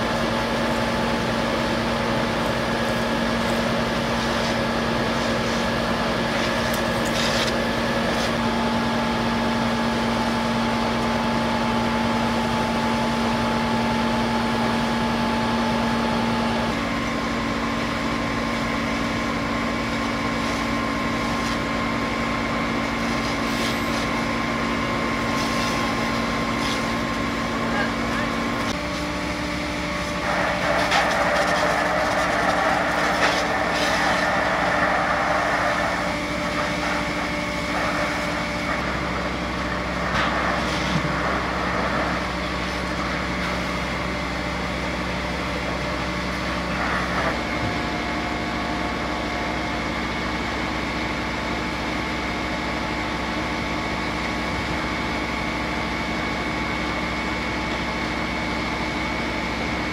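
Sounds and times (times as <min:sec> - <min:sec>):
fire truck engine and pump droning: 0:00.0 - 0:59.9.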